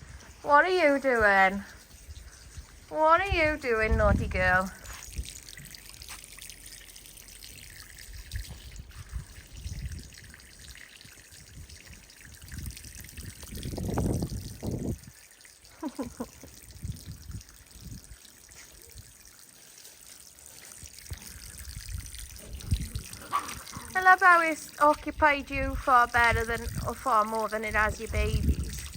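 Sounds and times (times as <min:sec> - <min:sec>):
water trickling between cobblestones: 0:00.0 - 0:28.9.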